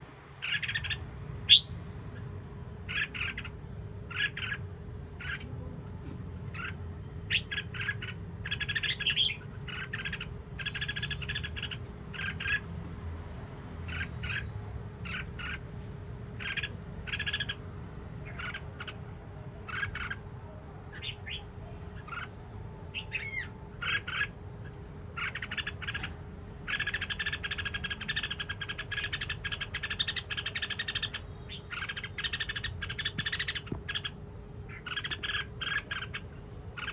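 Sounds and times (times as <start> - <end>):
steady low hum: 0.0 - 36.9
songbird chirping: 0.4 - 12.7, 13.8 - 36.9.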